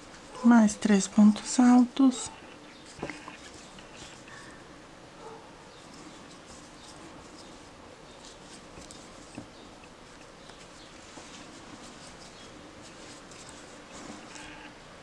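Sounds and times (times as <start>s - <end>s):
yarn rustling through stitches: 0.0s - 4.7s, 5.8s - 15.0s.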